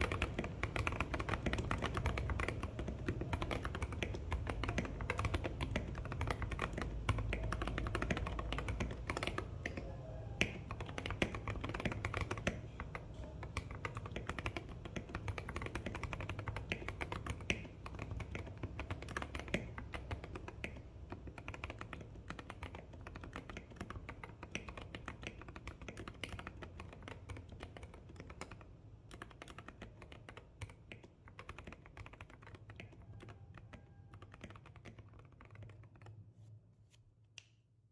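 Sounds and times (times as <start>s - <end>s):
rapid typing on mechanical keyboard: 0.0s - 36.2s.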